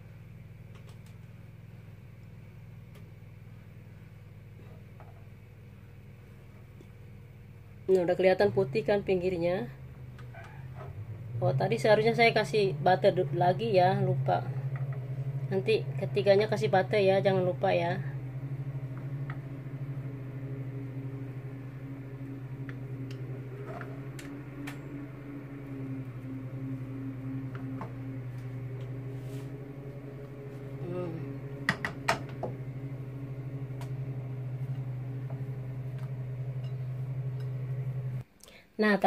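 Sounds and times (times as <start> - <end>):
kitchen machine humming: 4.6 - 38.2.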